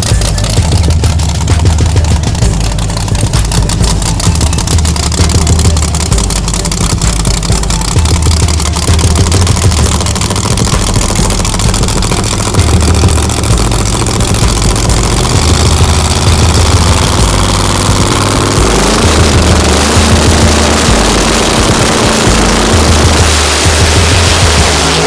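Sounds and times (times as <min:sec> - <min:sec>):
race car engine rumbling: 0:00.0 - 0:25.0.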